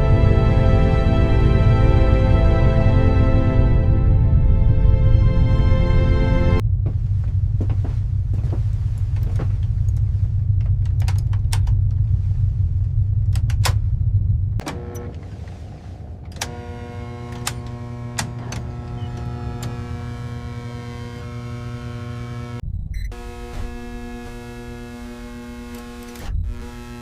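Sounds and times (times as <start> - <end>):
low machine rumble: 0.0 - 27.0
steady droning tones: 0.0 - 27.0.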